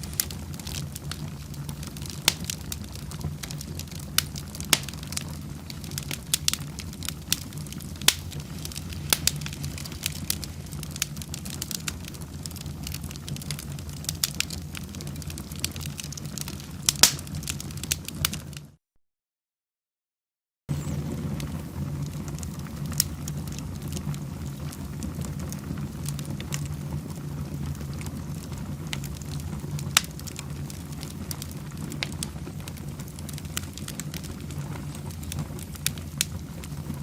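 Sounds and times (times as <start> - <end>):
wood fire crackling and popping: 0.0 - 18.8, 20.7 - 37.0.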